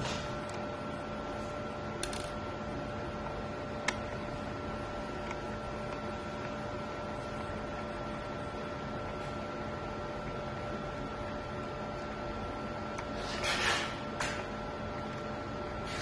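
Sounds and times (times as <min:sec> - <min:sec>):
faint steady whine: 0:00.0 - 0:13.6.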